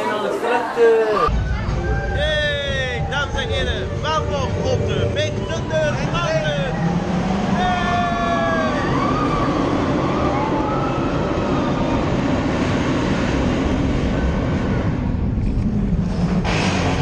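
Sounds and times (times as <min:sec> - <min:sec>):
roller coaster rumbling on track: 0:01.3 - 0:17.0.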